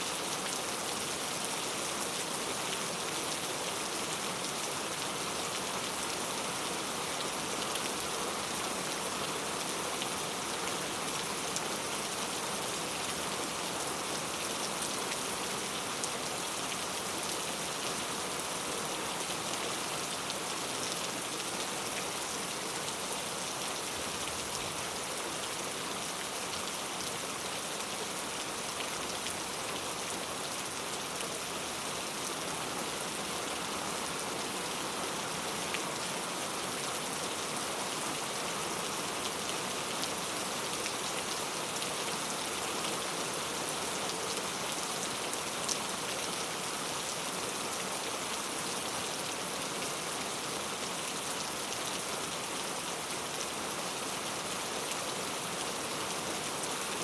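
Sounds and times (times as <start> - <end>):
heavy rain on hard surfaces: 0.0 - 57.0.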